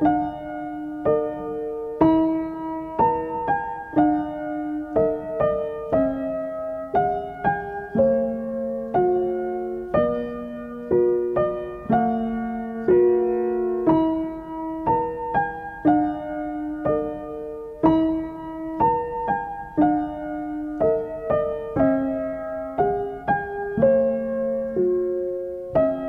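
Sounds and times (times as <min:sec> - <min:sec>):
slow gentle piano music: 0:00.0 - 0:26.0.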